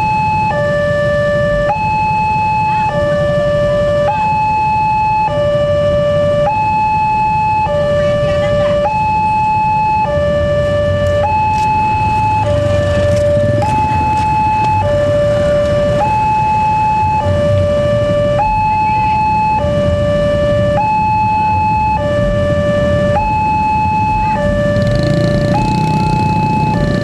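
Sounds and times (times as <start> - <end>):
level crossing two-tone alarm: 0.0 - 27.0.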